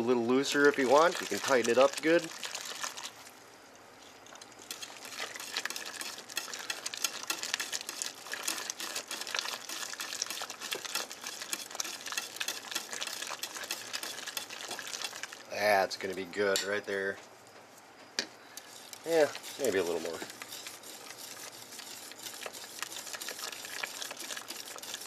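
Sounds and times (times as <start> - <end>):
wire whisk stirring in pot: 0.0 - 3.2, 4.6 - 16.8, 18.6 - 25.0
soup ticking and crackling: 0.0 - 3.5, 4.1 - 17.0, 18.5 - 25.0.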